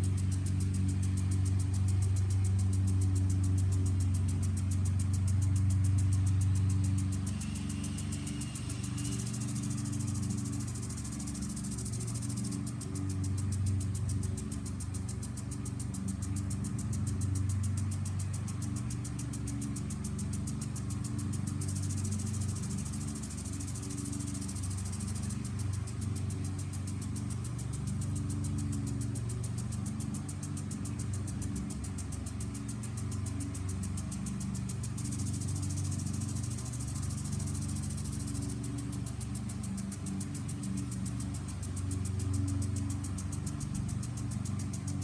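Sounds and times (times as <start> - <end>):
fast high ticking: 0.0 - 45.0
lawn mower engine running: 0.0 - 45.0.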